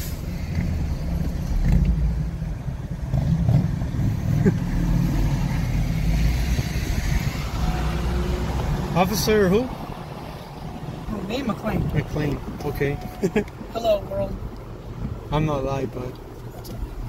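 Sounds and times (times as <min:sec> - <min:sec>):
car engine rumble: 0:00.0 - 0:17.0
road noise inside car: 0:00.0 - 0:17.0.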